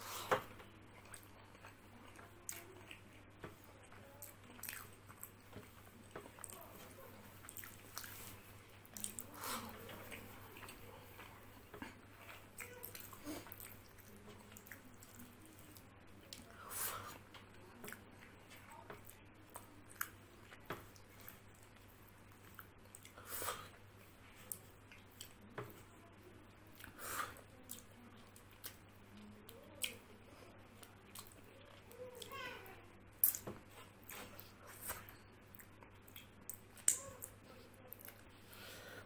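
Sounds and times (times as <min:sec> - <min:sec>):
chewing food: 0:00.1 - 0:38.6.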